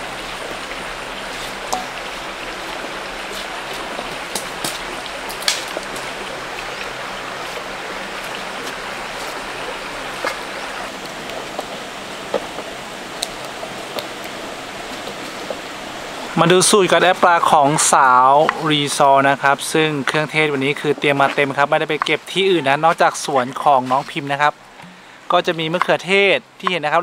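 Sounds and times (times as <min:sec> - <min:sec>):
flowing creek: 0:00.0 - 0:27.0.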